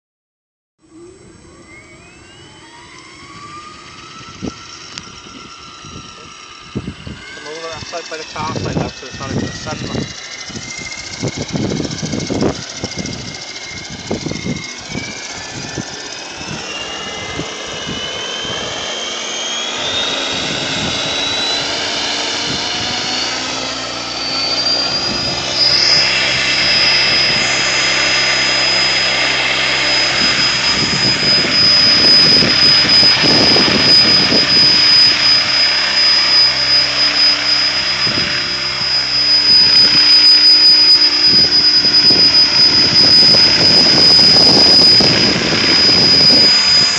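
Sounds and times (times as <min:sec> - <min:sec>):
electric helicopter motor whine: 0:00.8 - 0:46.9.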